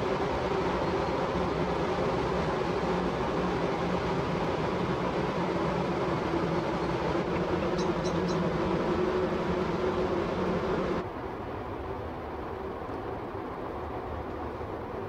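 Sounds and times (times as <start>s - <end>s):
rumble of passing ship: 0.0s - 15.0s
ship engine drone: 0.0s - 15.0s.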